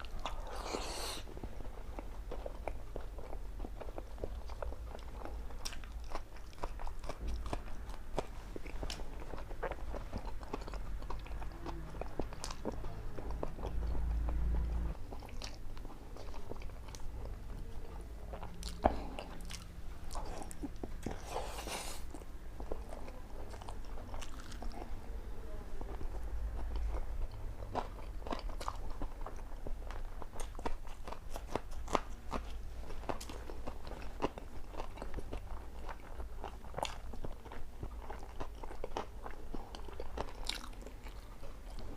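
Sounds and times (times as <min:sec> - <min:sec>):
crunching and chewing food: 0:00.0 - 0:41.9.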